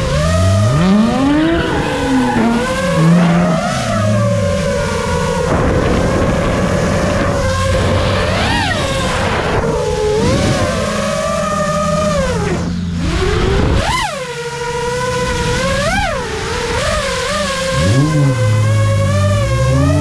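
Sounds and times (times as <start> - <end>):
car engines running: 0.0 - 20.0
drone motors whining: 0.0 - 20.0.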